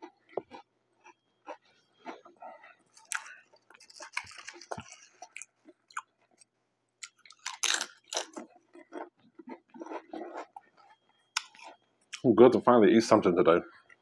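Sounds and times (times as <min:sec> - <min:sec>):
chewing and crunching chips: 0:00.0 - 0:12.5.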